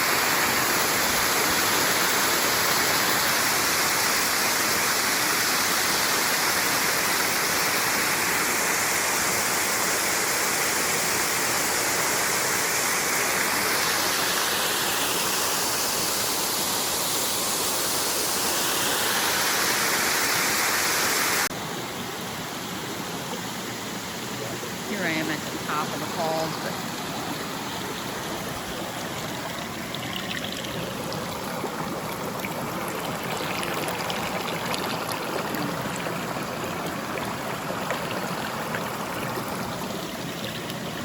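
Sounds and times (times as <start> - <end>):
small waterfall rushing: 0.0 - 41.0.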